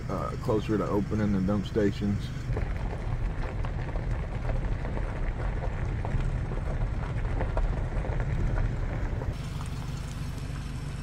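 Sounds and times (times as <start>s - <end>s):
gravel crackling under wheels: 0.0s - 11.0s
vehicle engine and tyres rumbling: 0.0s - 11.0s.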